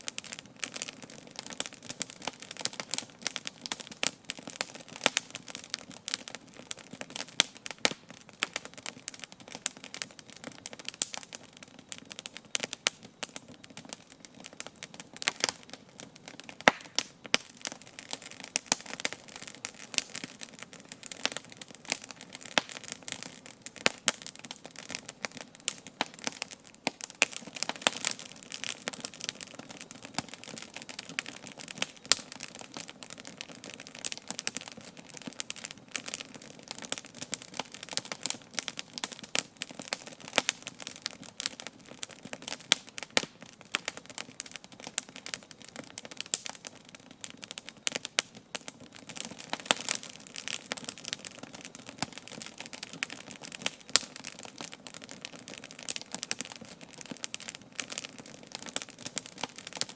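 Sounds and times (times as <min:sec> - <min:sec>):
campfire crackling: 0:00.0 - 0:59.9
campfire pops: 0:00.0 - 0:59.9.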